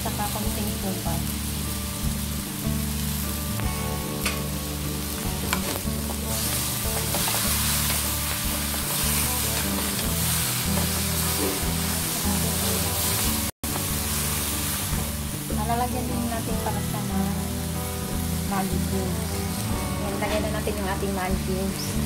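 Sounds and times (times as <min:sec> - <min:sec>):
chicken feet sizzling in a wok: 0:00.0 - 0:22.0.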